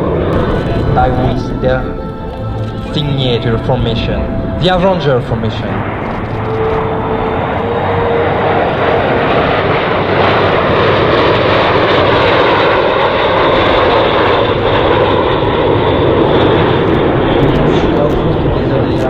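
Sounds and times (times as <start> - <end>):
jets flying past roaring: 0.0 - 19.0
thin jet whine: 0.0 - 19.0.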